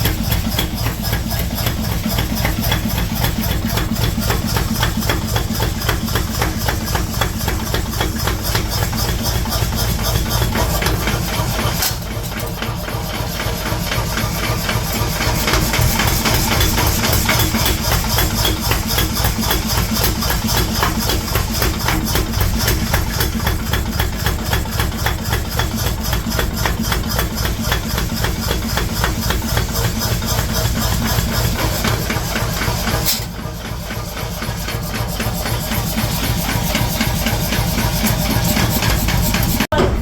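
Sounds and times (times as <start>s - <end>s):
workshop machine running: 0.0s - 40.0s.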